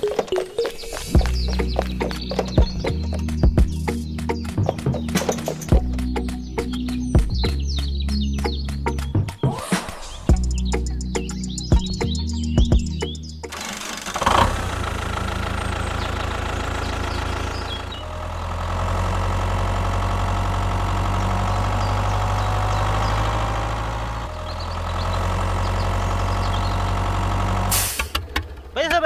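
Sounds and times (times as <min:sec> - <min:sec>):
engine idling: 0:00.0 - 0:09.1, 0:10.3 - 0:29.0.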